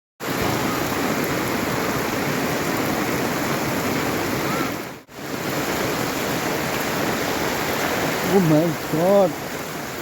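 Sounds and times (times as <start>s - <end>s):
fast-flowing water rushing: 0.2s - 10.0s.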